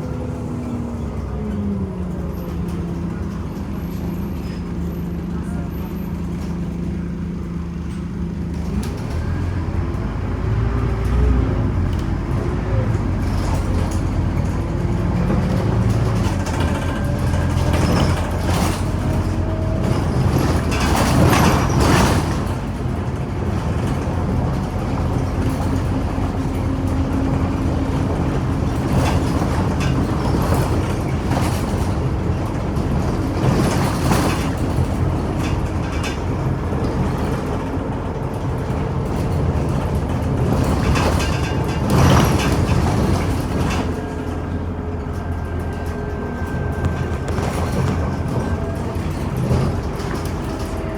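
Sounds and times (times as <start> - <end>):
bus engine and road rumble: 0.0 - 50.9.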